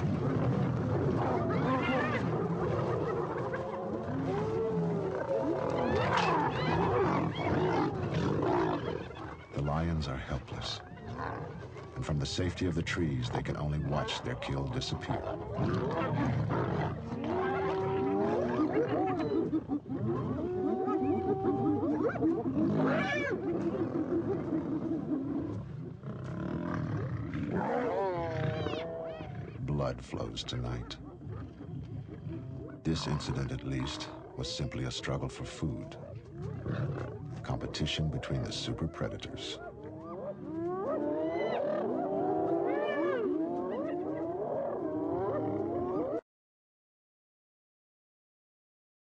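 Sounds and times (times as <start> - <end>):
hyenas chattering and calling: 0.0 - 46.2
lions growling and snarling: 0.0 - 46.2.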